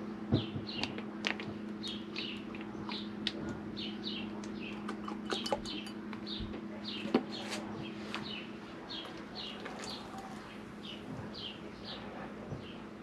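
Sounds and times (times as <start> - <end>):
steady low hum: 0.0 - 13.0
bird chirping: 1.8 - 12.8.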